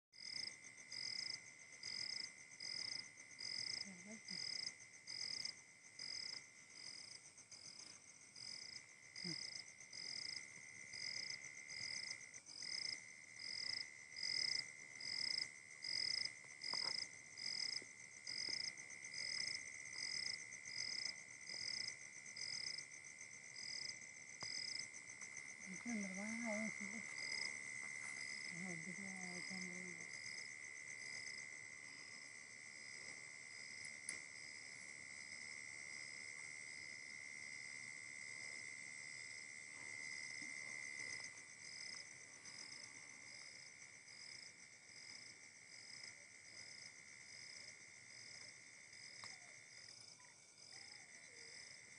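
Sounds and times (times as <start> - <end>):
insect chirping: 0.2 - 51.9
insects trilling: 0.2 - 51.9.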